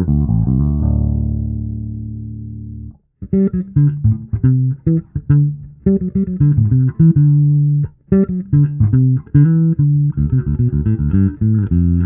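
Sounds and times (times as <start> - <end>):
electric bass notes: 0.0 - 12.0.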